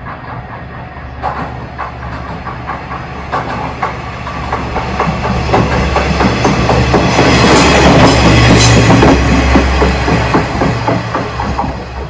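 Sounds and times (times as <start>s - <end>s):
diesel railcar engine rumble: 0.0s - 12.0s.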